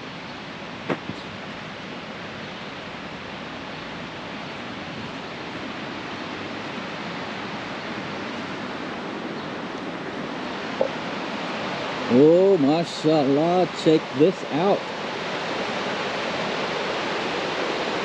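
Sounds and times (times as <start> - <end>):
white water rushing over rapids: 0.0 - 18.0.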